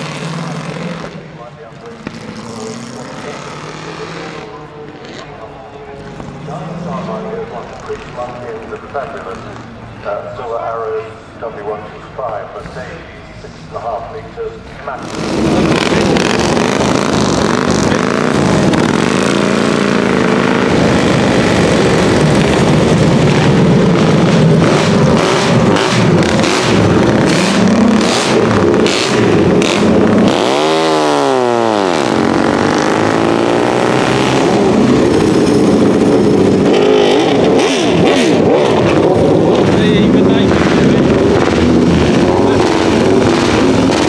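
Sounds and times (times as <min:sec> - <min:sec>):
engine revving: 0:00.0 - 0:10.2, 0:14.8 - 0:44.0
racing engines idling and blipping: 0:00.0 - 0:44.0.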